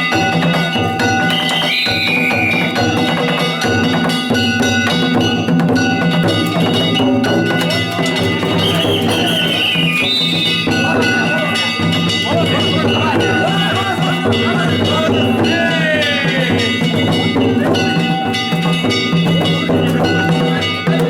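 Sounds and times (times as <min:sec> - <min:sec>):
festival drums: 0:00.0 - 0:21.0
hand-struck gongs ringing: 0:00.0 - 0:21.0
high wavering notes: 0:00.0 - 0:21.0.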